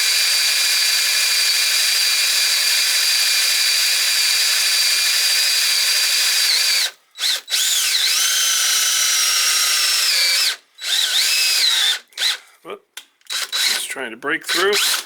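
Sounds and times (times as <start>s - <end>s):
drill motor whining: 0.1s - 12.4s, 13.3s - 13.8s, 14.5s - 15.0s.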